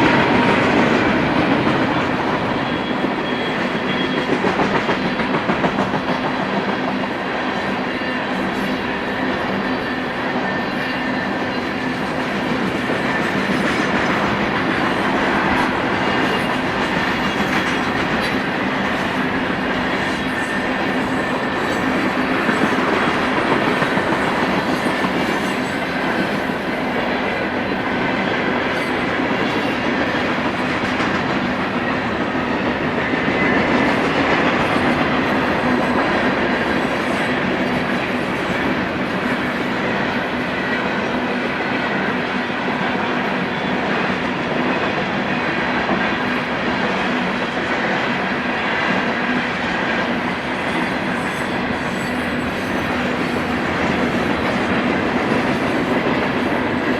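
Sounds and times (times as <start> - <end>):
freight train rumbling past: 0.0 - 56.9.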